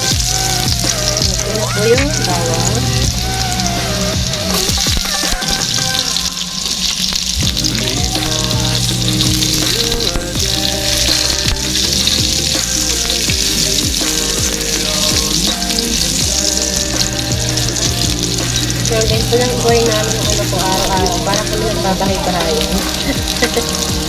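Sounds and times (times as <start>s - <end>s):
onion sizzling in hot oil: 0.0s - 24.0s.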